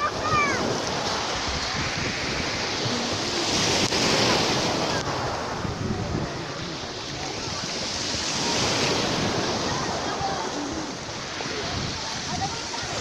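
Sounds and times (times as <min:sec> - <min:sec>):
sea surf washing ashore: 0:00.0 - 0:13.0
wind buffeting microphone: 0:00.0 - 0:13.0.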